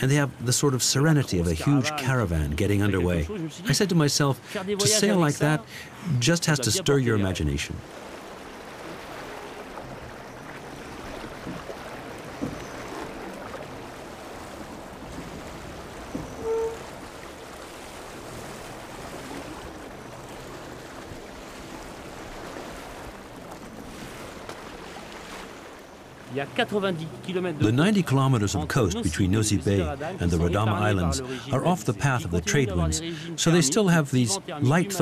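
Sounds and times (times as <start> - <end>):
water lapping against boat hull: 6.8 - 35.0.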